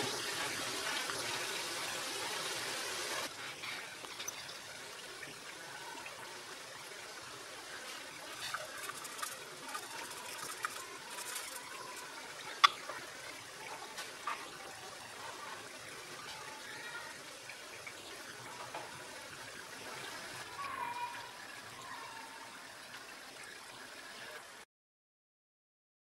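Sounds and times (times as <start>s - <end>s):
gravy bubbling in a pan: 0.0s - 24.2s.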